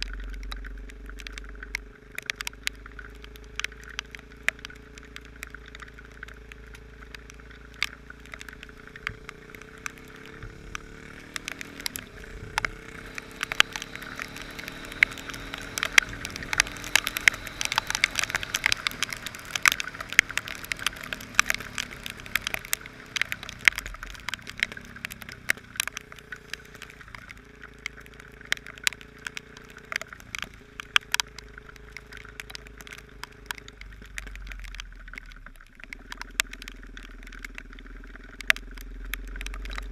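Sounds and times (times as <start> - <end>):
heavy rain: 0.0 - 39.9
motorcycle engine running: 0.0 - 39.9.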